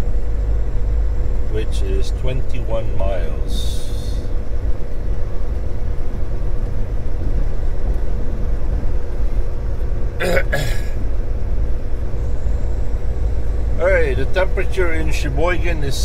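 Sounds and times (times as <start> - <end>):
faint steady hum: 0.0 - 16.0
truck engine and road rumble: 0.0 - 16.0.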